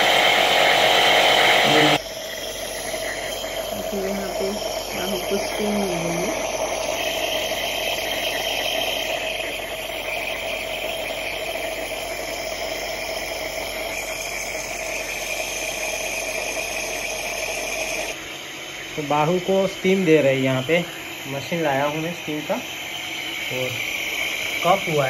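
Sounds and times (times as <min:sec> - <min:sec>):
nebulizer compressor humming: 0:00.0 - 0:25.0.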